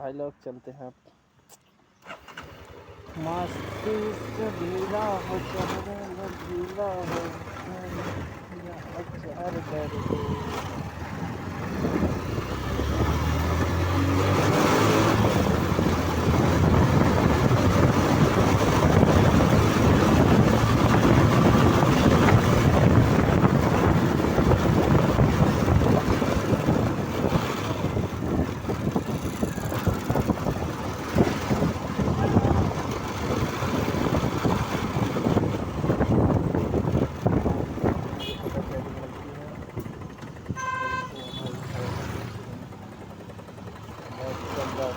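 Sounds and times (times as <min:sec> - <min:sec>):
wind and road rush: 0:01.2 - 0:44.9
motorcycle engine accelerating: 0:02.0 - 0:44.9.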